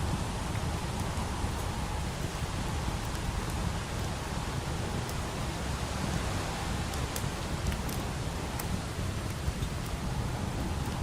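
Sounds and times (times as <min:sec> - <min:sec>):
fireplace crackling: 0:00.0 - 0:11.0
hiss of rain: 0:00.0 - 0:11.0.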